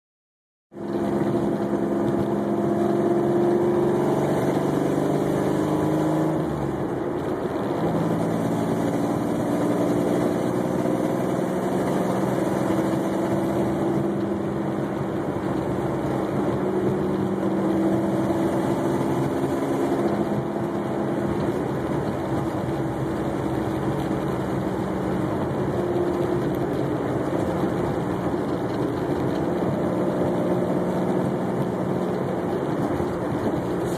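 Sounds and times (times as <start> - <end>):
engine with exhaust leak: 0.8 - 33.9.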